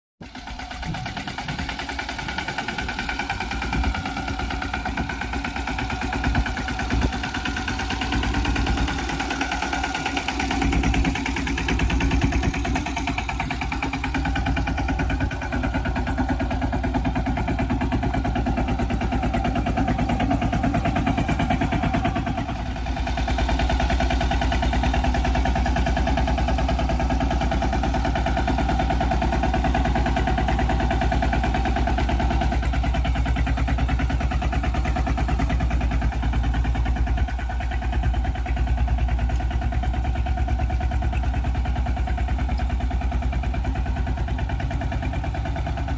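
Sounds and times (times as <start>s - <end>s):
tractor engine running: 0.2s - 45.9s.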